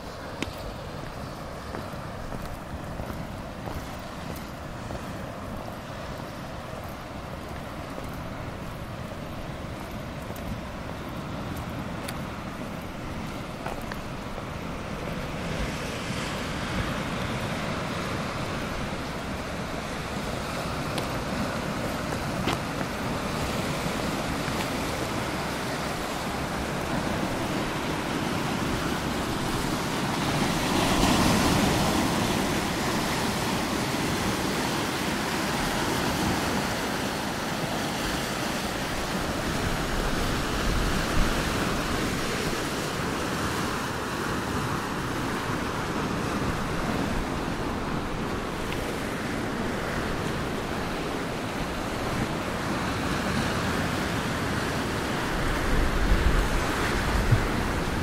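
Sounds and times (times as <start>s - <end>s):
sea waves washing in: 0.0s - 58.0s.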